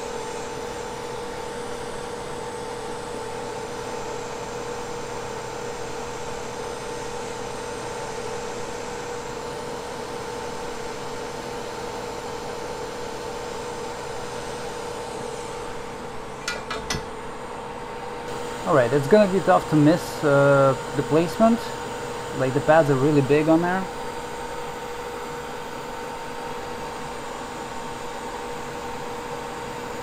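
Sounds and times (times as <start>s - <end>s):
fan whir with two-tone hum: 0.0s - 30.0s
hot air rework station blowing: 0.0s - 30.0s.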